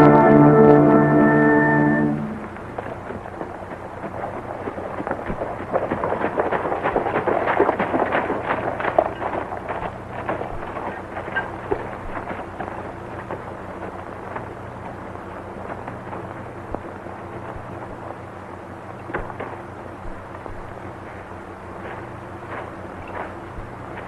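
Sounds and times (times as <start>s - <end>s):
horse hooves clopping: 0.0s - 24.0s
old film soundtrack hum and hiss: 0.0s - 24.0s.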